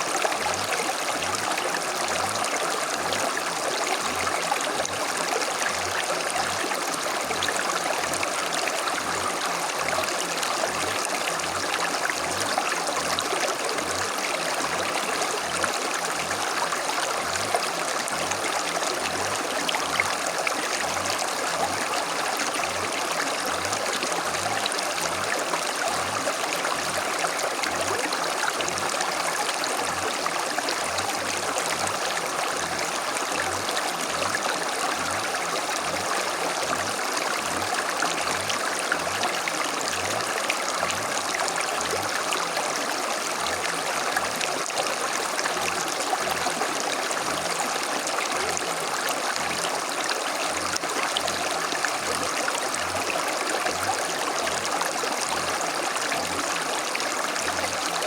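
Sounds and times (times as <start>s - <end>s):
stream burbling over stones: 0.0s - 58.0s.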